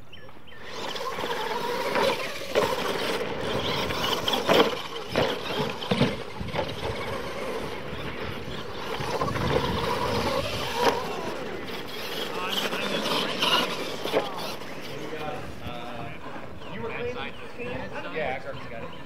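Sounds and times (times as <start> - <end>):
toy truck motors whining: 0.2 - 19.0.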